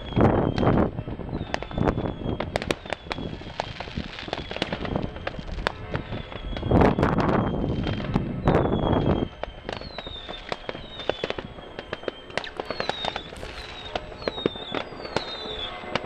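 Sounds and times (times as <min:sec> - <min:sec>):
firework rush: 0:00.0 - 0:16.0
fireworks crackling and banging: 0:00.0 - 0:16.0
high falling whistle: 0:01.4 - 0:16.0.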